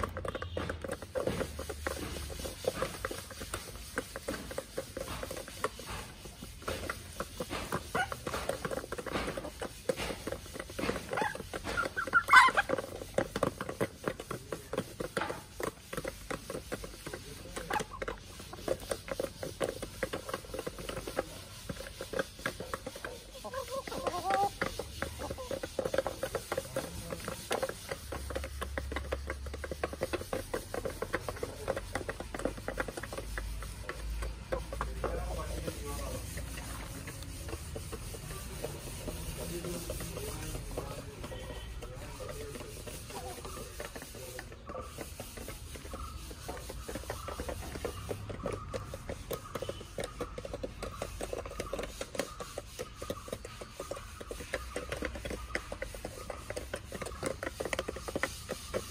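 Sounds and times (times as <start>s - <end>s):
beaks tapping on dirt: 0.0s - 58.9s
chickens clucking: 0.0s - 58.9s.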